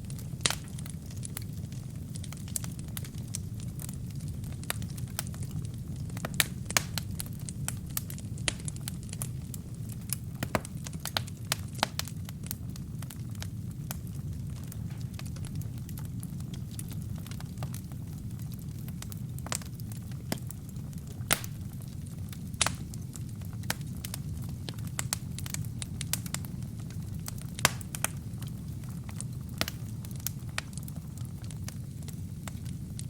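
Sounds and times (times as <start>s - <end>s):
fire crackling and popping: 0.0s - 33.0s
fire rumbling: 0.0s - 33.0s.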